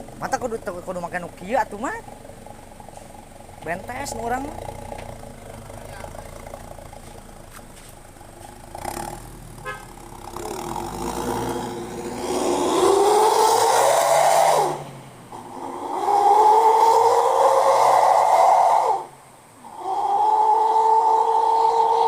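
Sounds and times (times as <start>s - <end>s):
car engine revving: 0.0s - 19.8s.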